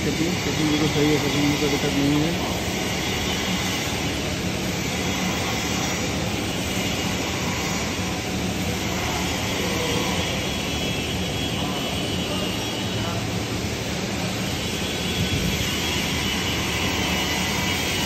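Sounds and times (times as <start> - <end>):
workshop machinery roar: 0.0 - 18.0.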